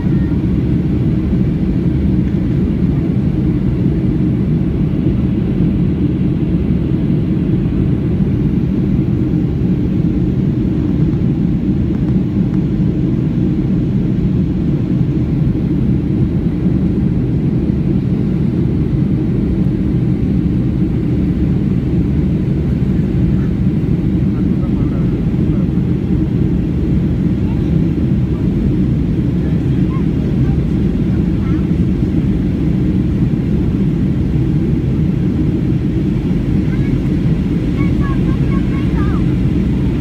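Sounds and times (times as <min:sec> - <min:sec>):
jet airliner cabin rumble: 0:00.0 - 0:40.0.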